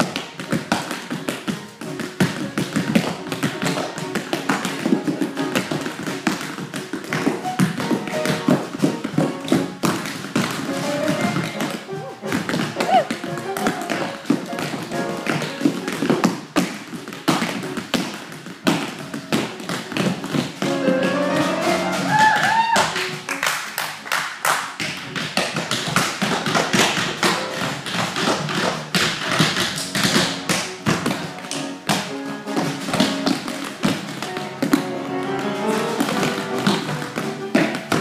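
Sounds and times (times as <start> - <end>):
instrumental music: 0.0 - 17.7, 18.9 - 24.0, 27.1 - 38.0
tap shoes on hard floor: 0.0 - 38.0.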